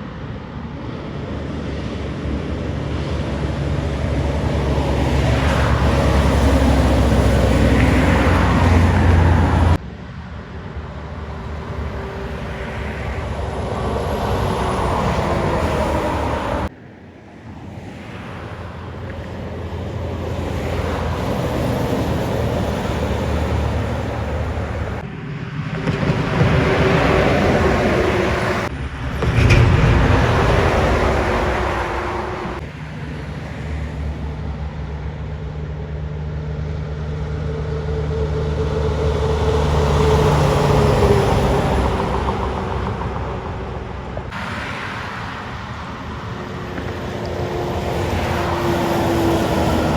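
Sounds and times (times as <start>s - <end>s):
heavy trucks passing: 0.0s - 49.9s.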